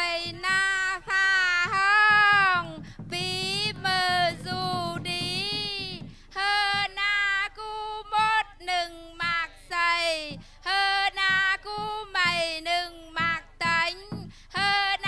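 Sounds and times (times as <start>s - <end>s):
woman singing a chant: 0.0s - 15.0s.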